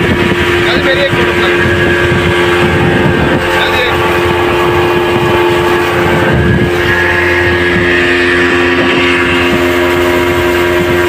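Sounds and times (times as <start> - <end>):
outboard engine running: 0.0 - 11.0
wind and water rushing: 0.0 - 11.0.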